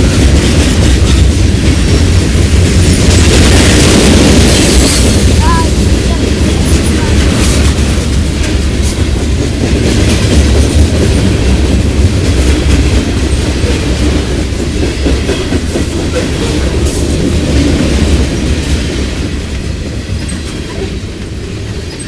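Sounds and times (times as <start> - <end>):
freight train rumbling past: 0.0 - 22.0
wheels clacking over rail joints: 0.0 - 22.0.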